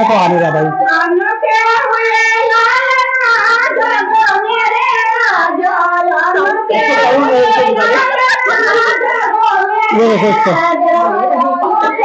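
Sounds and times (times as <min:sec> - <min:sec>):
women singing together: 0:00.0 - 0:12.0.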